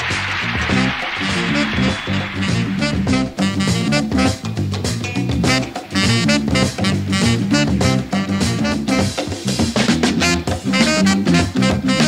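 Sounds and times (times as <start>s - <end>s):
swing music with bass line: 0.0s - 12.0s.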